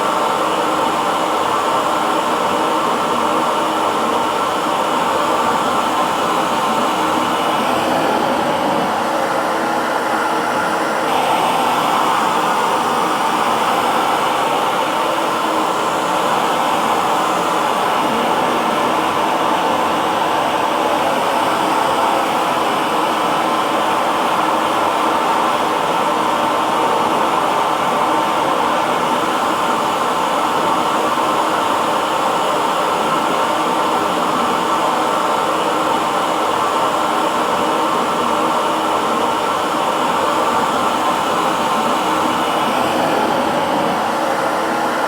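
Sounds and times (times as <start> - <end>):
hair dryer running: 0.0 - 45.0.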